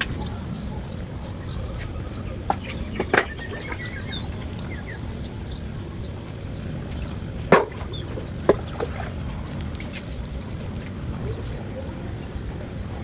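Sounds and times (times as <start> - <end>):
chickens clucking: 0.0 - 13.0
small birds chirping: 0.0 - 13.0.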